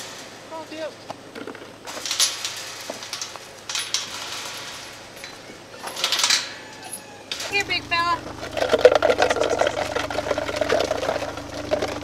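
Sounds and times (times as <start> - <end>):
metallic clinking and jangling: 1.5 - 12.0.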